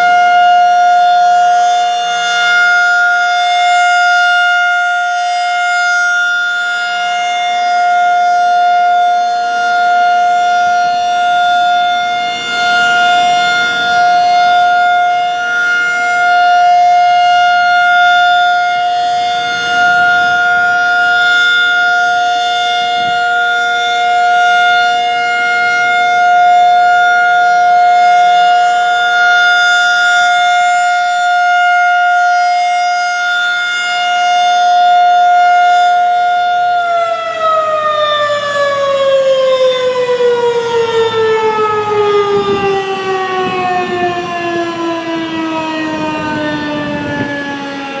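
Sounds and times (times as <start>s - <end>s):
tornado siren steady tone: 0.0s - 48.0s.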